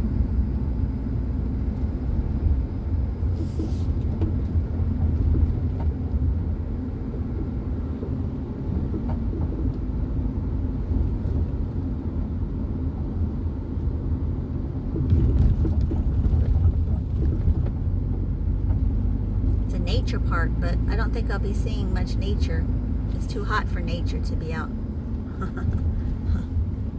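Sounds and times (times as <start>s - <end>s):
car engine rumble: 0.0s - 26.9s.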